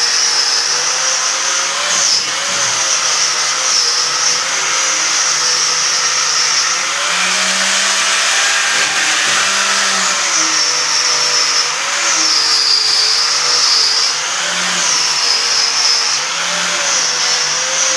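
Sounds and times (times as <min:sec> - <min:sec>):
power tool whining: 0:00.0 - 0:17.9.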